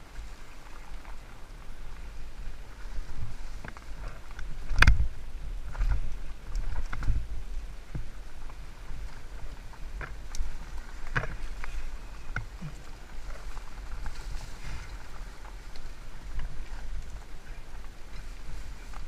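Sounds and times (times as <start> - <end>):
tyres rumbling on trail: 0.0 - 19.0
wind on microphone: 0.0 - 19.0
bike rattles and knocks: 2.4 - 19.0.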